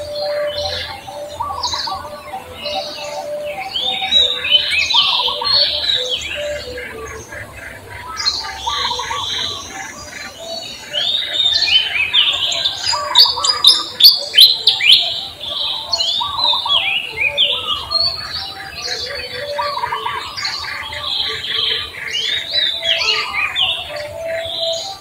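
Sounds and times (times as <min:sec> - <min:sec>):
birds chirping in chorus: 0:00.0 - 0:25.0.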